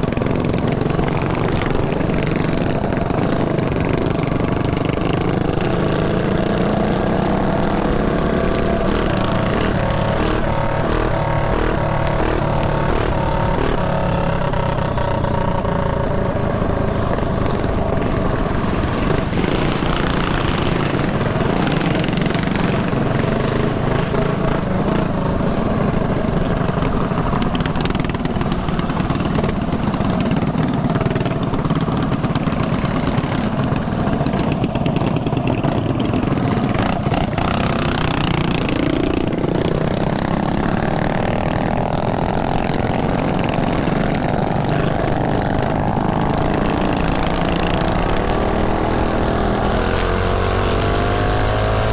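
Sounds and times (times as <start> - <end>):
mini bike engine running: 0.0 - 51.9.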